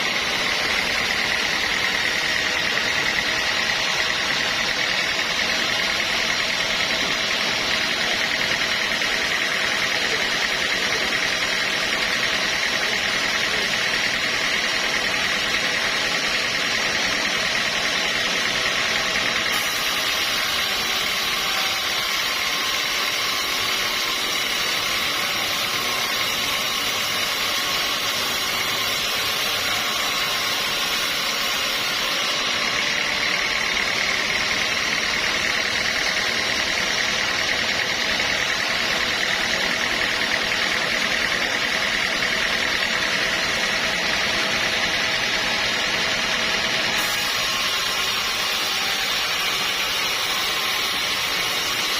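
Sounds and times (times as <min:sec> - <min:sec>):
high machine whine: 0:00.0 - 0:51.9
sawmill machinery drone: 0:00.0 - 0:51.9.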